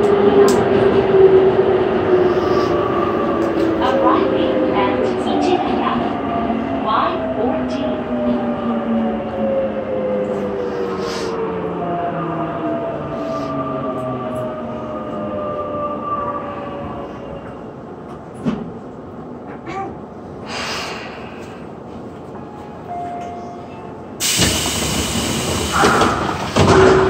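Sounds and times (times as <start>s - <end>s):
train doors opening rush: 0.0s - 27.0s
train running and wheel noise: 0.0s - 27.0s.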